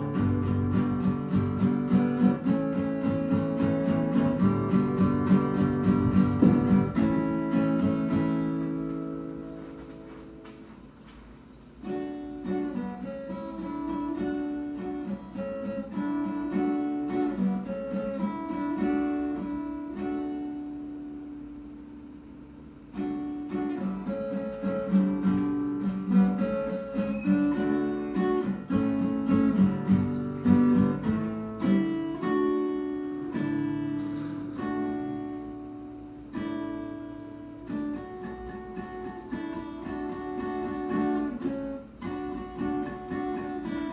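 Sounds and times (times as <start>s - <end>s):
acoustic guitar playing: 0.0s - 43.9s.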